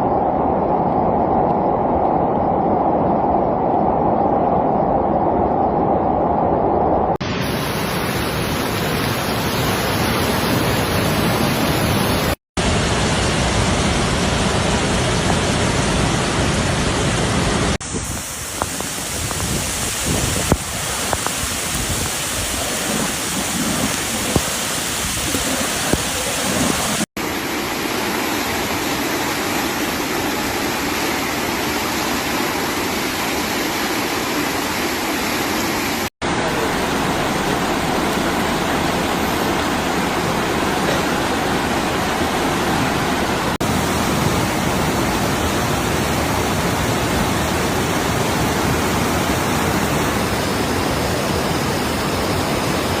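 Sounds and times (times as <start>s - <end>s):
heavy rain: 7.1s - 53.0s
floodwater rushing: 7.2s - 53.0s.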